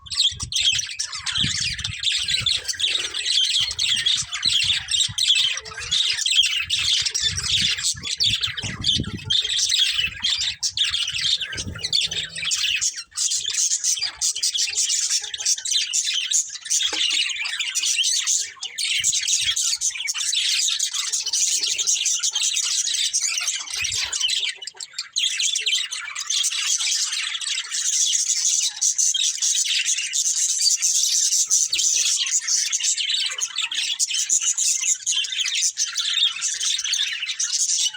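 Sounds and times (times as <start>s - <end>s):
budgerigars chirping: 0.0s - 37.9s.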